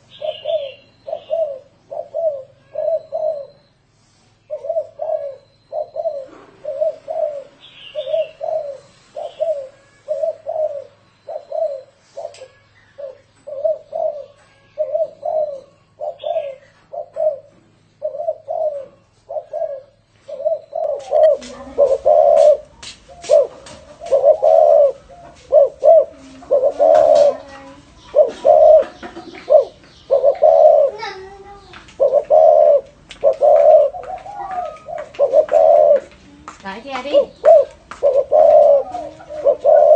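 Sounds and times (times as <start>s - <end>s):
dove cooing: 0.0s - 3.8s, 4.4s - 39.9s.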